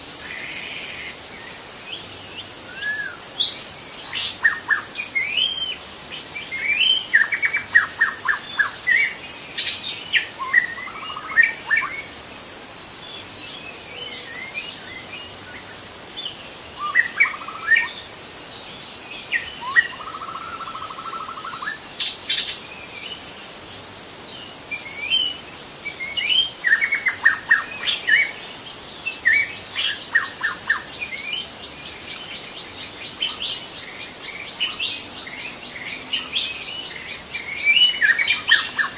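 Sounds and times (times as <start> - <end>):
high-pitched insect drone: 0.0 - 38.9
bird singing whistles and trills: 0.2 - 23.2, 24.4 - 38.9.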